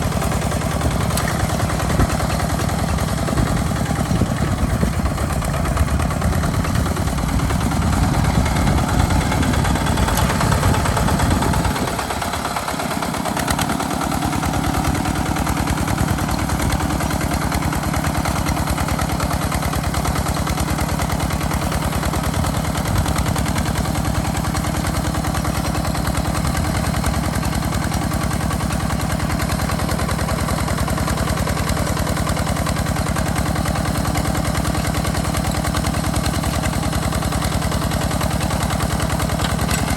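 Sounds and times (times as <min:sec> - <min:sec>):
small diesel engine chugging: 0:00.0 - 0:39.9.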